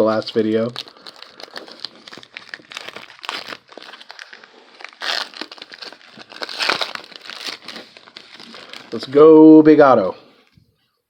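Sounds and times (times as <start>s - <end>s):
wrappers crinkling: 0.0s - 10.6s.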